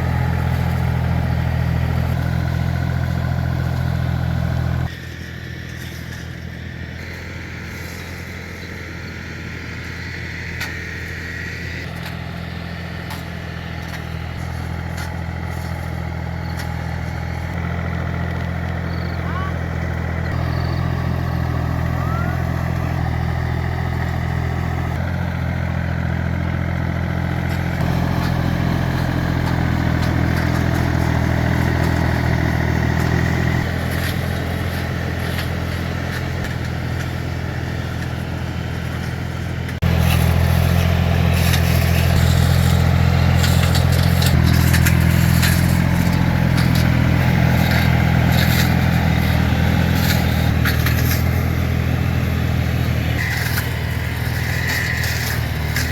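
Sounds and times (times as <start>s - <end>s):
walking tractor engine running: 0.0s - 55.9s.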